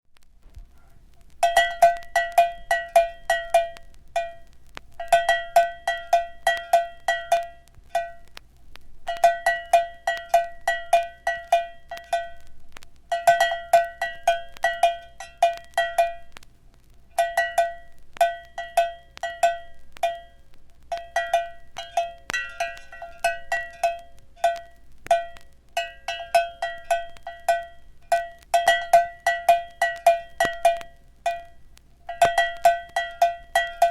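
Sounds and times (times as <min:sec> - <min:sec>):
cowbell strikes: 0:01.4 - 0:08.3, 0:09.1 - 0:12.5, 0:13.1 - 0:16.3, 0:17.2 - 0:33.9.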